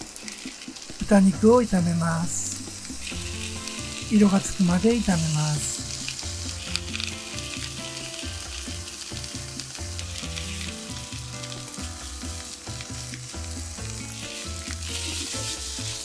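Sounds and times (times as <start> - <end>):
meat sizzling in a frying pan: 0.0 - 16.0.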